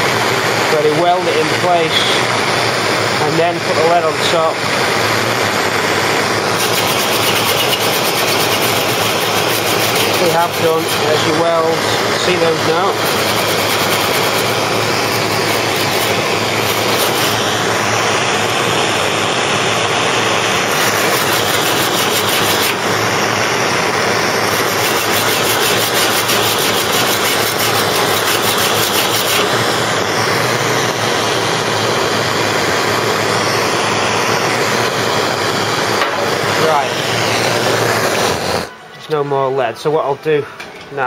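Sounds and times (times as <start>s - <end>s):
blowtorch flame hissing: 0.0s - 38.7s.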